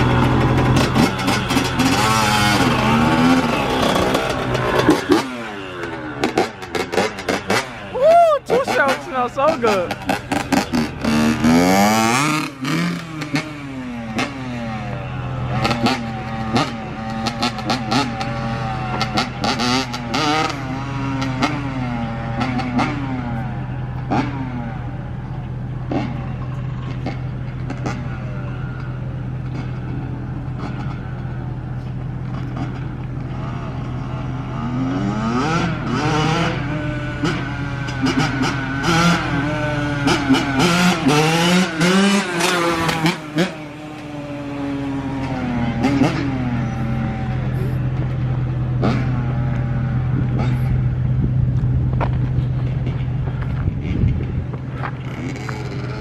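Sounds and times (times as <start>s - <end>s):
two-stroke engine revving: 0.0s - 24.8s, 32.3s - 51.3s, 54.9s - 56.0s.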